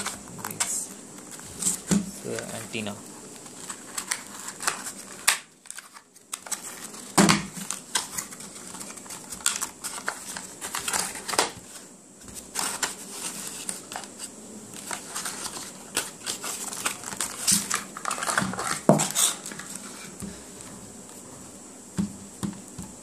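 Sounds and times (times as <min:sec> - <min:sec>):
plastic film crinkling: 0:00.0 - 0:20.4
cardboard rustling: 0:00.0 - 0:23.0.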